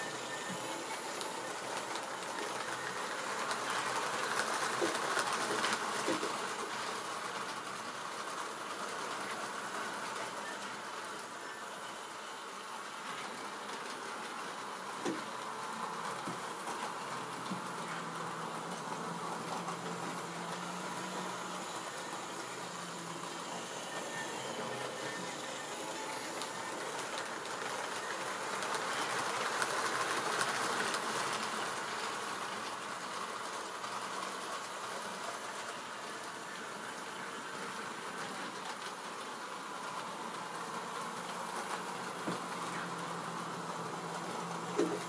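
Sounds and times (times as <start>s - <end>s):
model train running on track: 0.0s - 45.0s.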